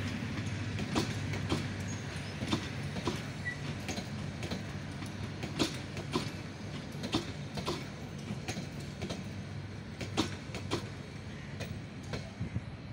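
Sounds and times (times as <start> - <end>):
wheels clacking over rail joints: 0.0 - 12.4
train coaches rumbling past: 0.0 - 12.9.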